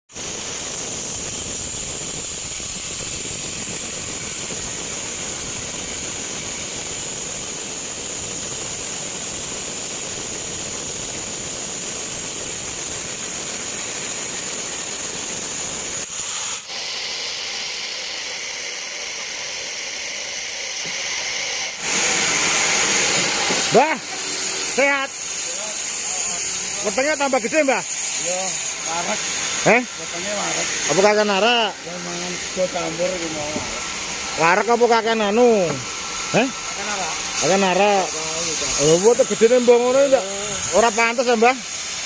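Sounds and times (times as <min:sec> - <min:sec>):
sawmill machinery hissing: 0:00.1 - 0:42.0.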